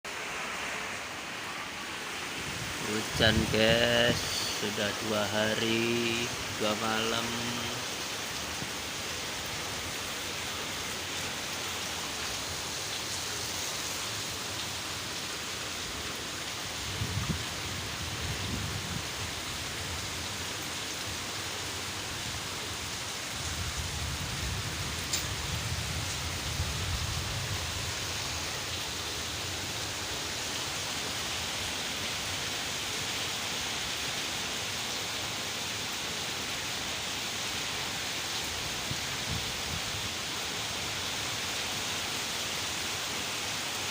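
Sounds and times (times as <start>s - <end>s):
heavy rain hissing: 0.1s - 43.9s.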